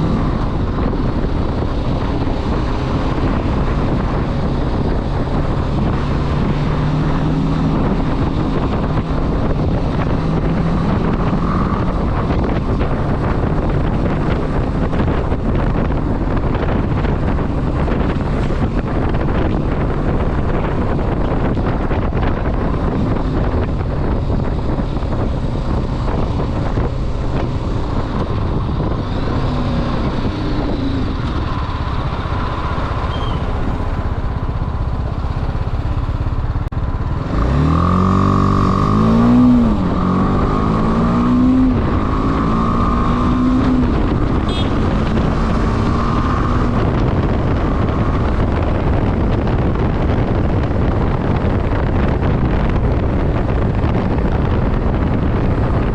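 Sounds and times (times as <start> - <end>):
motorcycle engine accelerating: 0.0 - 55.9
wind noise on microphone: 0.0 - 55.9.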